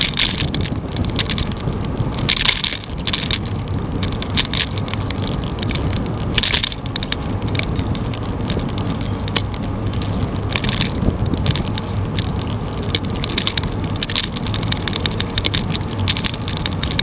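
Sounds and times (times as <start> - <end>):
bike clicks and rattles: 0.0 - 17.0
tyre and wind rumble: 0.0 - 17.0.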